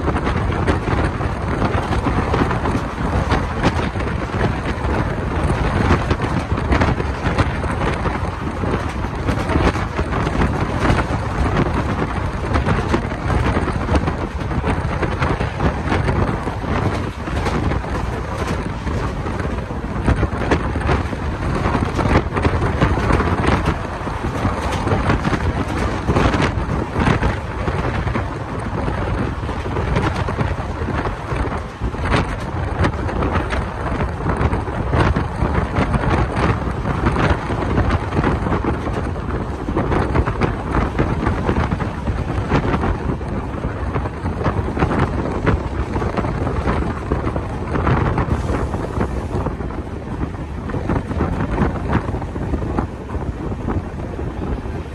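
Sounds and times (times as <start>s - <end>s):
train running rumble: 0.0s - 54.9s
train wheels clacking on rails: 0.0s - 54.9s
wind buffeting microphone: 0.0s - 54.9s.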